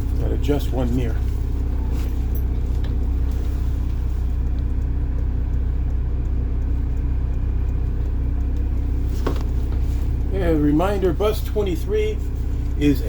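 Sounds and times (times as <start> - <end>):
diesel bus engine running: 0.0 - 13.0.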